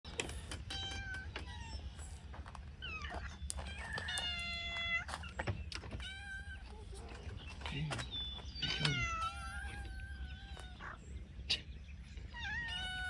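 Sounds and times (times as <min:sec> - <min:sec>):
cats meowing: 0:00.1 - 0:11.1, 0:12.2 - 0:13.0.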